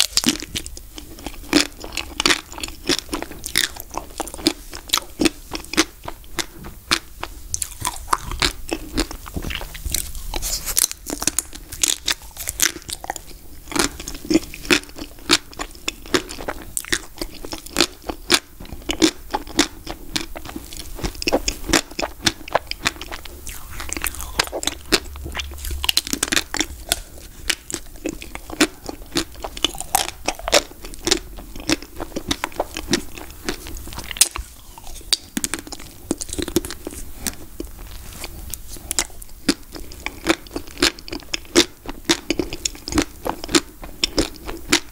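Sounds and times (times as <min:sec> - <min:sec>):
chocolate shell crunching while chewing: 0:00.0 - 0:44.9.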